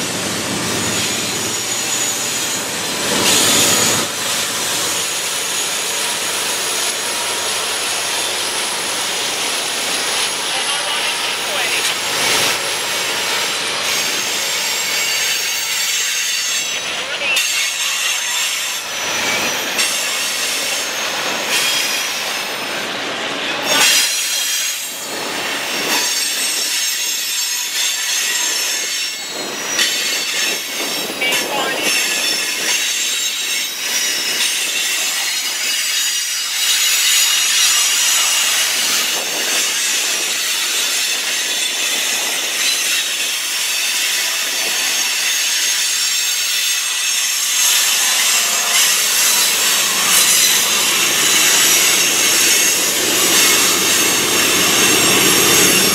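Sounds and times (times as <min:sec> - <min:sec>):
passing train rumble: 0:00.0 - 0:55.9
train wheels squealing on rail: 0:00.0 - 0:55.9.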